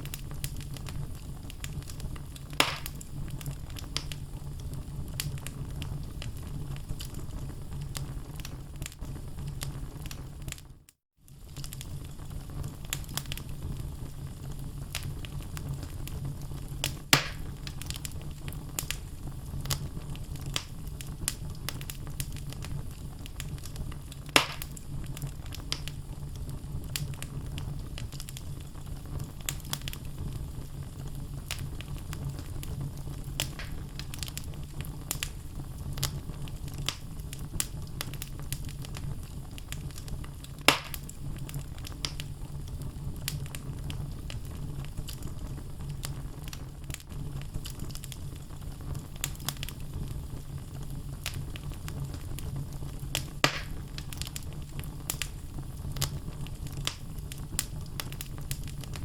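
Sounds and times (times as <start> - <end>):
loud pops of burning wood: 0.0 - 10.6, 11.3 - 59.0
wood crackling: 0.0 - 10.7, 11.3 - 59.0
fire flames: 0.0 - 59.0.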